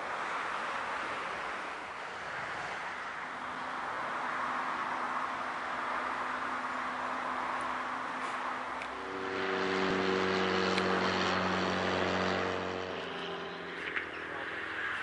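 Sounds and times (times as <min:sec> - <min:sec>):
propeller aircraft drone: 0:00.0 - 0:15.0.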